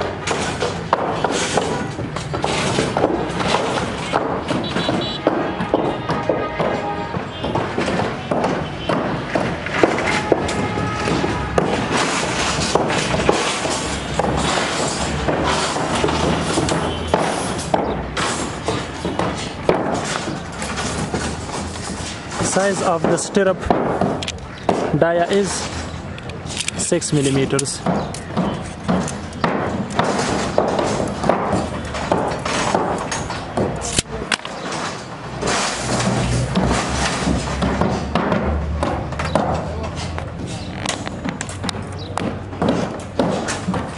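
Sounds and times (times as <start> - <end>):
knocks and clanks: 0.0 - 43.9
steady construction din: 0.0 - 43.9.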